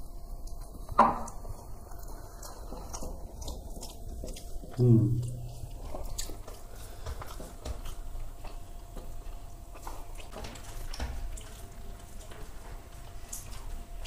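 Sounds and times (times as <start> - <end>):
faint steady hum: 0.0 - 14.0
wet chewing and lip smacks: 0.4 - 12.2.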